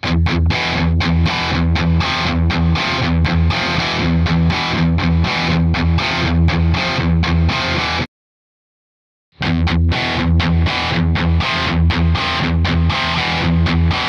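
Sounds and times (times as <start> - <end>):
distorted electric guitar riff: 0.0 - 8.1, 9.4 - 14.0.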